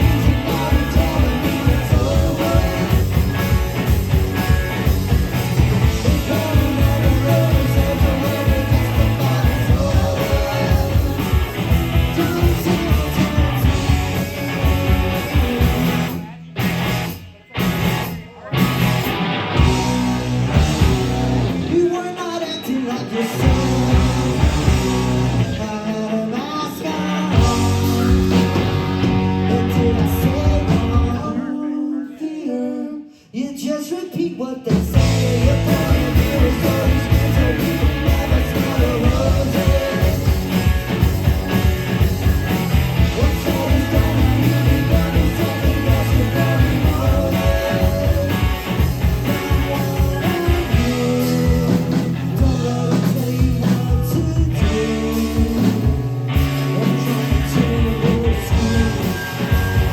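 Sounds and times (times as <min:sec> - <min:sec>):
person singing: 0:00.0 - 0:03.4, 0:05.8 - 0:16.0, 0:21.7 - 0:28.6, 0:29.3 - 0:41.0, 0:43.0 - 0:59.9
electric guitar: 0:00.0 - 0:31.5, 0:34.9 - 0:59.9
rock band playing live: 0:00.0 - 0:31.5, 0:34.6 - 0:59.9.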